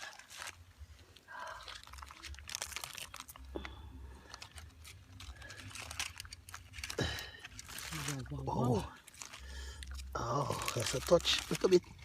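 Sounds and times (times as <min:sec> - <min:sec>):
roast fish crunching and crackling: 0:00.0 - 0:12.0.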